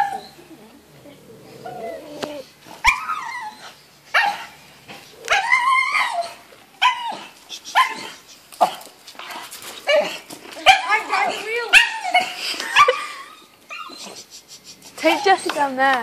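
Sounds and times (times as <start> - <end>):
dog barking and yelping: 0.0 - 0.6, 1.4 - 15.8.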